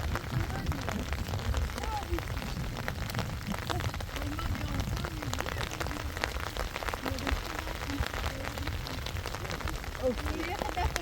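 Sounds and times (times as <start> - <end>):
faint voices: 0.0 - 11.0
low rumble: 0.0 - 11.0
rain drops ticking on a surface: 0.0 - 11.0.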